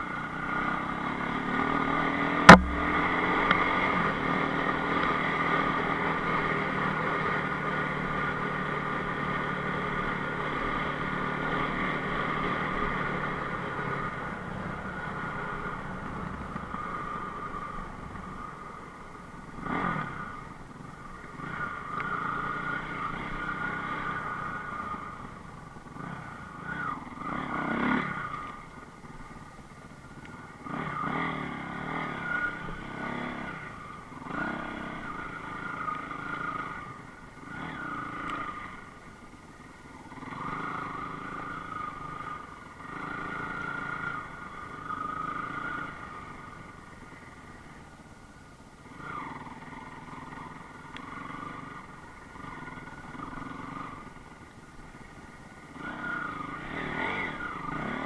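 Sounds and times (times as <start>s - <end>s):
motorcycle engine revving: 0.0s - 48.0s, 48.8s - 58.0s.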